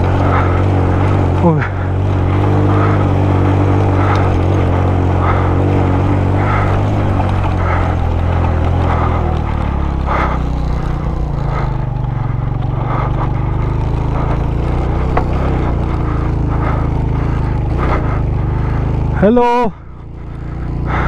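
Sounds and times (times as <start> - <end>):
motorcycle engine running: 0.0 - 21.0
motorcycle rattling over stones: 0.0 - 21.0.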